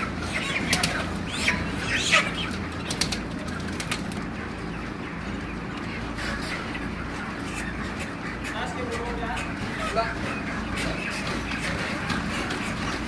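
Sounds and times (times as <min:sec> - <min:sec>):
low background hum: 0:00.0 - 0:13.0
poultry chirping calls: 0:00.0 - 0:13.0.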